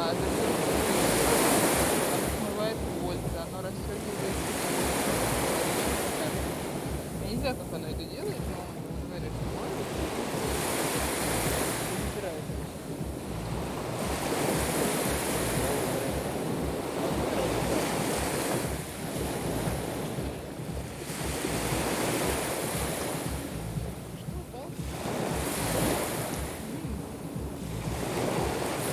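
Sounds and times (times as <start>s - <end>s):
waves washing on shore: 0.0s - 28.9s
wind rumbling on microphone: 0.0s - 28.9s.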